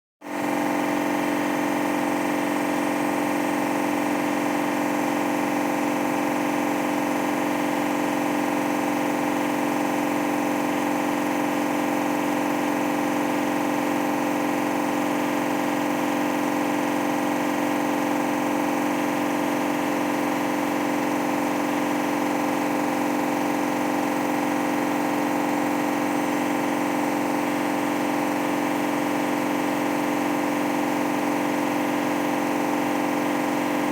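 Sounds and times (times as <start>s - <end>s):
washing machine spin hum: 0.2s - 33.9s.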